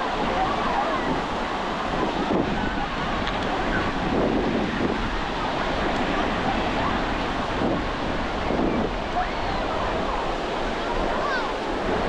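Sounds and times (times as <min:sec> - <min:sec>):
surf washing on shore: 0:00.0 - 0:12.0
wind buffeting microphone: 0:00.0 - 0:12.0.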